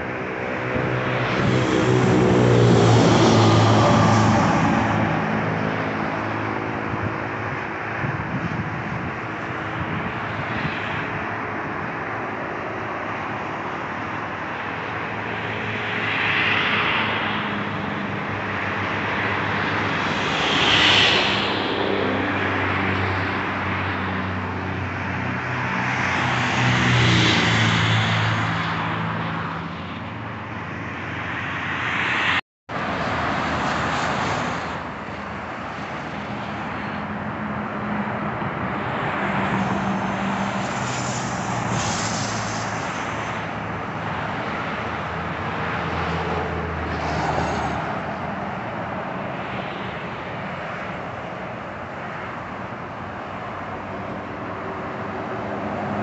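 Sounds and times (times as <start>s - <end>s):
tyre noise of passing traffic: 0.0s - 56.0s.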